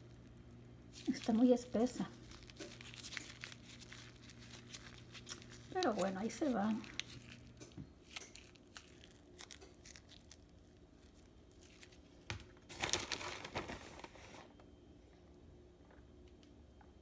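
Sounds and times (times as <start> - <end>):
plastic bag crinkling: 0.0 - 14.5.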